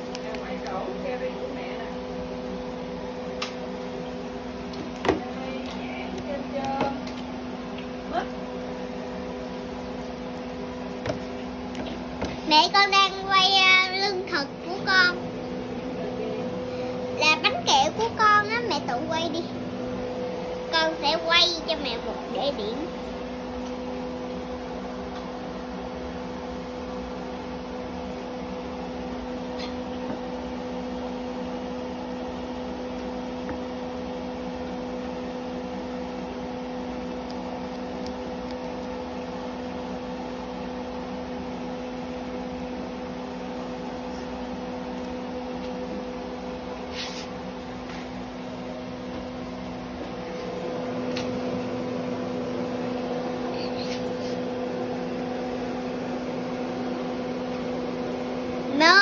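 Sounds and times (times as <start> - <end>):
appliance humming: 0.0 - 59.0.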